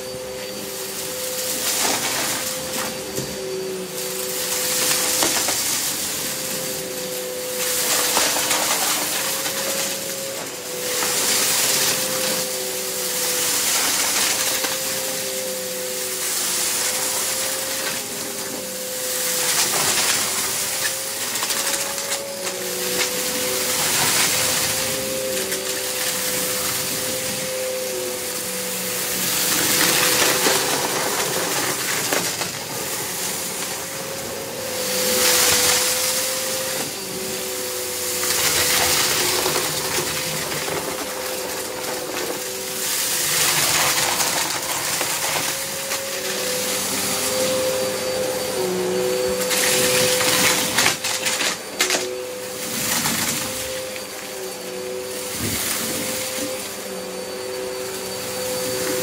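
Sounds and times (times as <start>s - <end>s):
vacuum cleaner motor whine: 0.0s - 59.0s
vacuum picking up debris: 0.2s - 59.0s.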